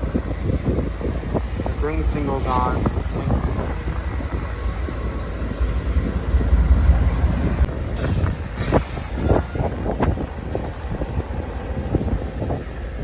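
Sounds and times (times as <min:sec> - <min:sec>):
freight train rumbling by: 0:00.0 - 0:13.0
wind buffeting microphone: 0:00.0 - 0:13.0.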